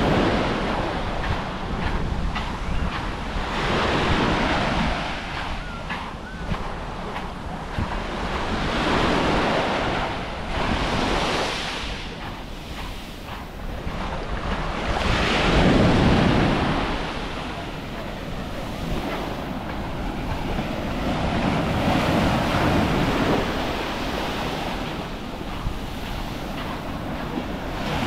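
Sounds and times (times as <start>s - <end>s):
small waves breaking on shore: 0.0s - 2.2s, 2.9s - 28.0s
wind on microphone: 0.0s - 28.0s.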